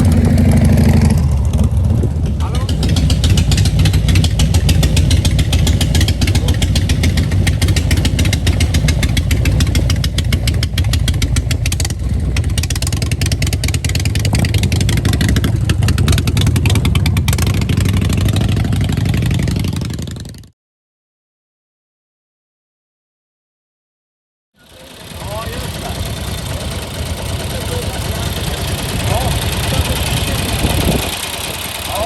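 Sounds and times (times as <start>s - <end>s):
loud engine idling: 0.0s - 20.3s, 24.6s - 32.0s.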